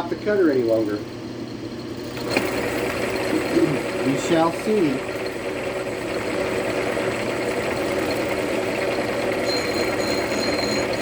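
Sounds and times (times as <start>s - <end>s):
milling machine cutting metal: 0.0s - 11.0s.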